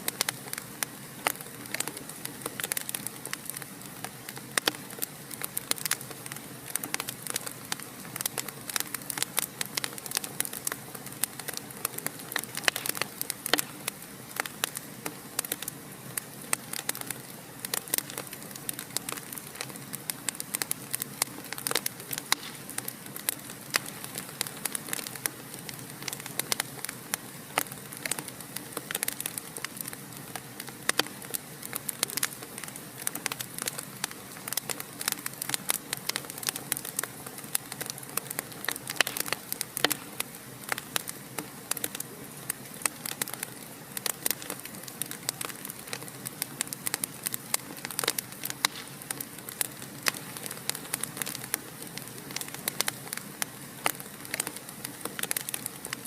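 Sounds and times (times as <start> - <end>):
steady hiss: 0.0 - 56.0
wood fire popping and snapping: 0.0 - 56.0.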